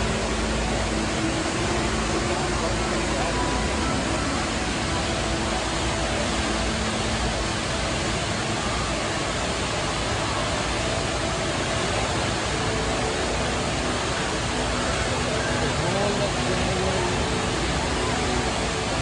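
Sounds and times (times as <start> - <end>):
waterfall pouring into basin: 0.0 - 19.0.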